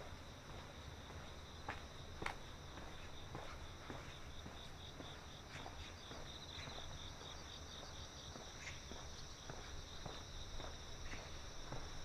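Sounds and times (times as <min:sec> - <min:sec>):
crickets chirping: 0:00.0 - 0:12.0
soft footsteps: 0:00.0 - 0:12.0.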